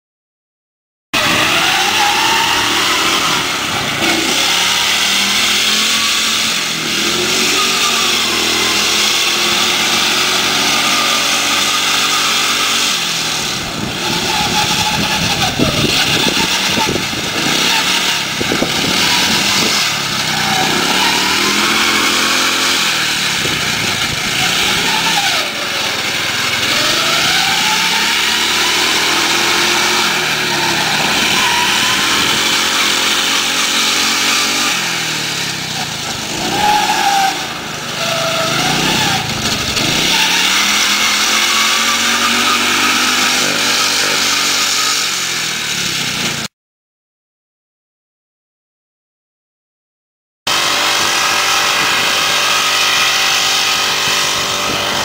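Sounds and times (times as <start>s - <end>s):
riding lawnmower engine revving: 1.2s - 46.5s, 50.5s - 55.0s.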